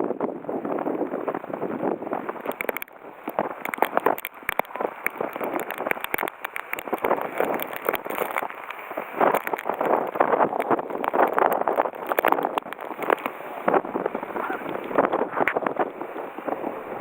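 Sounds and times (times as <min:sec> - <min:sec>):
strong wind: 0:00.0 - 0:17.0
heavy rain: 0:00.2 - 0:17.0
raindrops tapping: 0:01.1 - 0:16.6.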